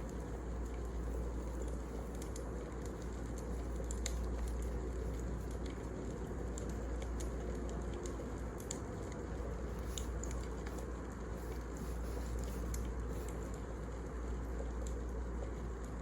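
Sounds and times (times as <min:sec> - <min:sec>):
low rumble of fire: 0:00.0 - 0:16.0
wood fire crackling and popping: 0:00.0 - 0:16.0.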